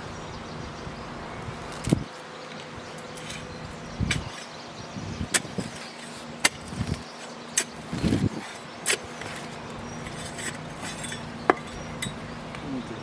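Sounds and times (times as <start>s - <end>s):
digging tool in soil and roots: 1.6s - 13.0s.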